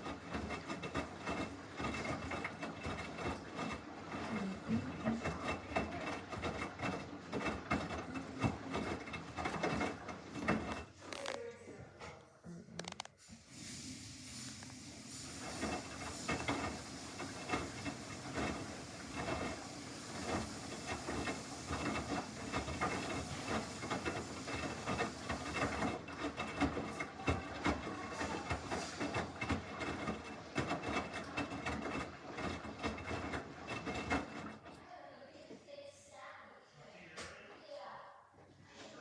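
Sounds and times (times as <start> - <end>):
washing machine running: 0.0 - 11.4, 13.4 - 35.1.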